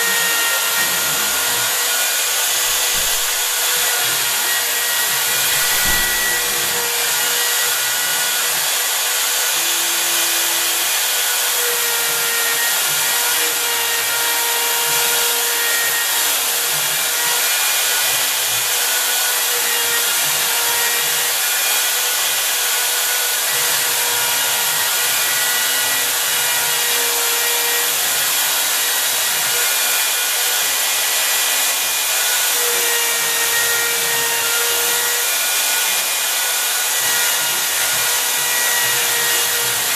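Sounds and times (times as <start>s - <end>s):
router bit cutting wood: 0.0s - 39.9s.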